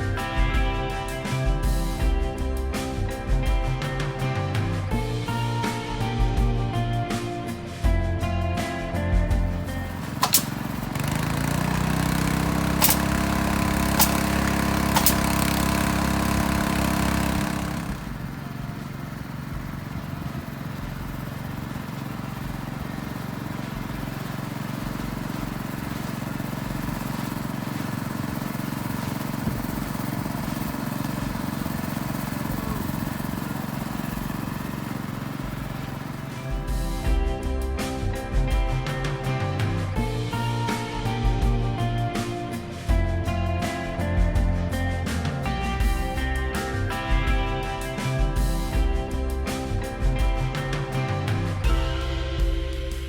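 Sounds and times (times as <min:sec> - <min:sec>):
engine revving: 0:00.0 - 0:53.0.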